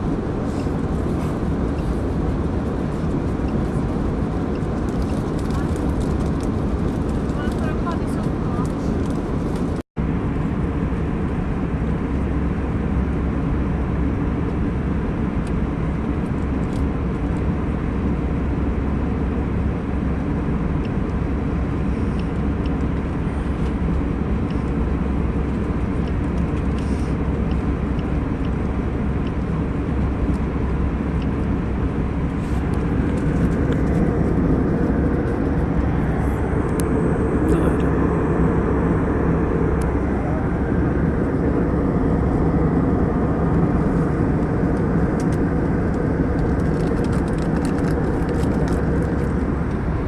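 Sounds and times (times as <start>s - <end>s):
airliner cabin engine rush: 0.0s - 50.0s.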